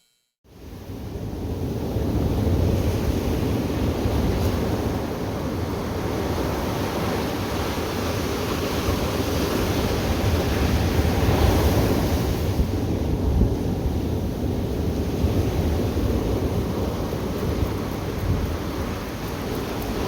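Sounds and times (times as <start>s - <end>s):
ocean surf washing ashore: 0.5s - 20.0s
wind rumbling on microphone: 0.5s - 20.0s.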